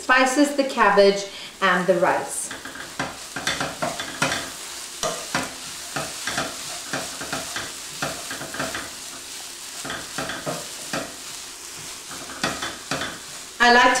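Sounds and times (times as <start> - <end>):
frying hiss: 0.0 - 14.0
wooden spatula scraping pan: 2.4 - 13.6.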